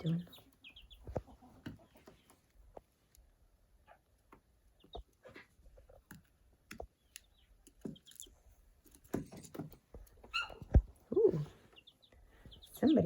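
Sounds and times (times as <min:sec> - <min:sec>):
chick peeping softly: 0:00.0 - 0:13.0.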